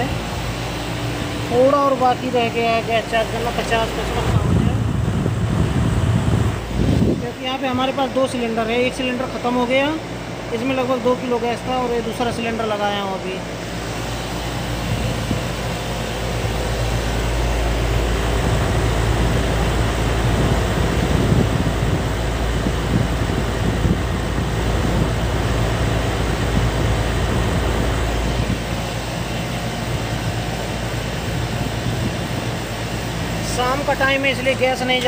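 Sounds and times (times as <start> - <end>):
heavy low rumble: 0.0 - 8.9, 13.6 - 35.0
air conditioner hum and air rush: 0.0 - 35.0.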